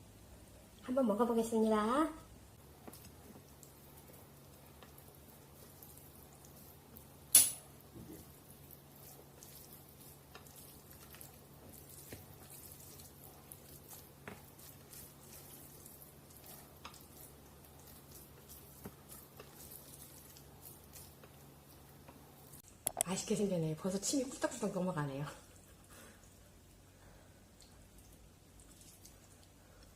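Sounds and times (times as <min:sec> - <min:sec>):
wet stirring of noodles: 0:02.6 - 0:22.7, 0:23.9 - 0:29.9.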